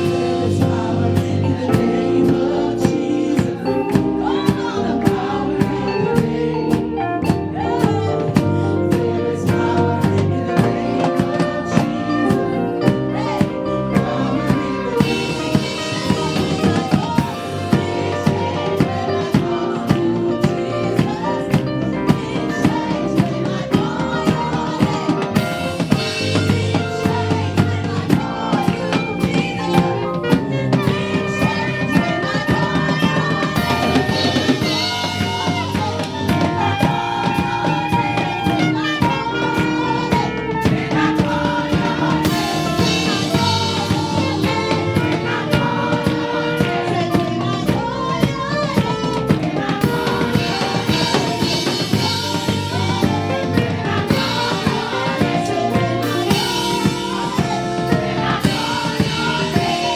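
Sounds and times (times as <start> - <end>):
drum kit beat: 0.0 - 59.9
live gospel band music: 0.0 - 59.9
person singing: 0.0 - 59.9.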